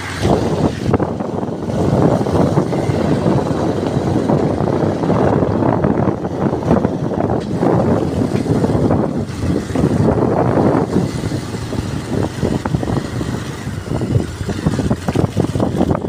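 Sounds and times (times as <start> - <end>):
moving vehicle running noise: 0.0 - 16.0
wind rumble on microphone: 0.0 - 16.0.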